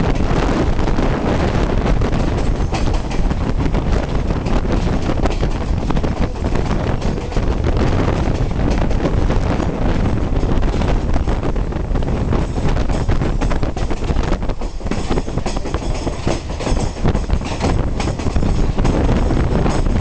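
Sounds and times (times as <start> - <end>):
train cars rumbling: 0.0 - 20.0
wheels clattering over rails: 0.0 - 20.0
wind buffeting microphone: 0.0 - 20.0.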